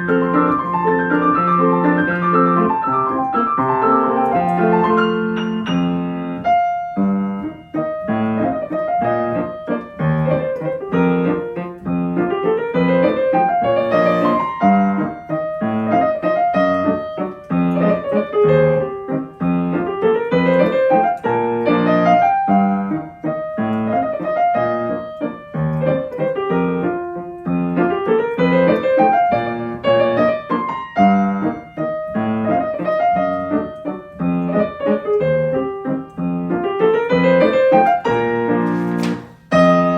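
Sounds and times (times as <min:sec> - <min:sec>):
solo piano waltz: 0:00.0 - 0:39.9.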